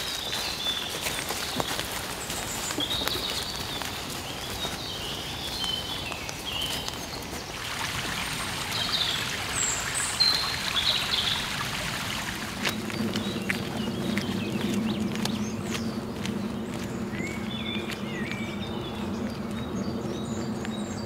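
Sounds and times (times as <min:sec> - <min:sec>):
brook running: 0:00.0 - 0:21.0
small birds chirping: 0:00.0 - 0:21.0.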